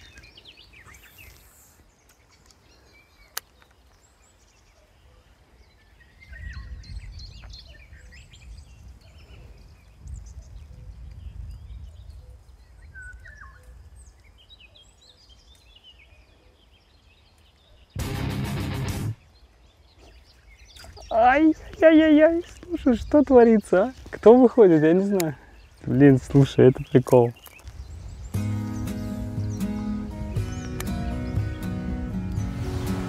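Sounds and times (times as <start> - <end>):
songbirds chirping and singing: 0.0 - 33.0.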